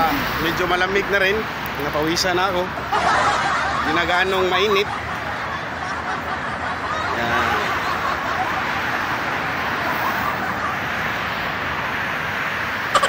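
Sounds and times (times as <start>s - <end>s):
car traffic rushing: 0.0s - 13.0s.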